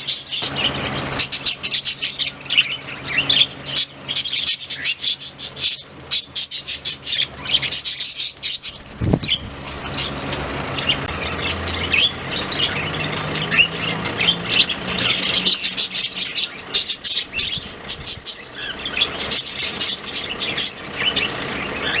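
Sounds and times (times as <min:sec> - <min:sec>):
budgerigars chirping: 0:00.0 - 0:22.0.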